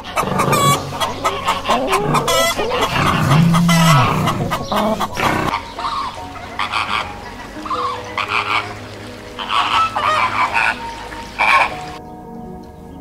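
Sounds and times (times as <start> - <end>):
flamingos calling: 0.0 - 12.0.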